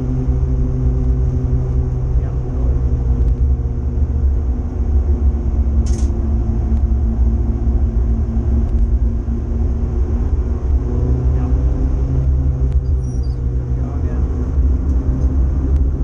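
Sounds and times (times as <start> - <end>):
car engine revving under load: 0.0 - 16.0
road and tyre rumble: 0.0 - 16.0.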